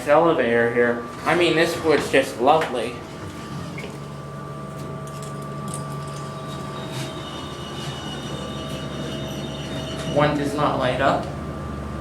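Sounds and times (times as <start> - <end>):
elevator ride hum: 0.0 - 12.0
high whine: 0.0 - 12.0.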